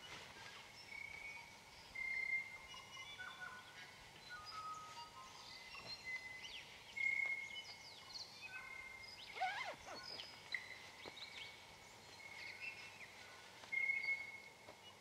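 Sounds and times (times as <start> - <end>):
birds singing: 0.6 - 15.0.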